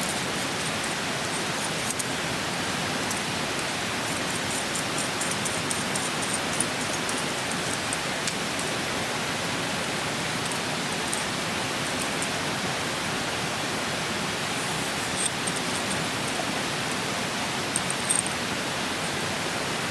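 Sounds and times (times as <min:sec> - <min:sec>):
stream rushing: 0:00.0 - 0:19.9.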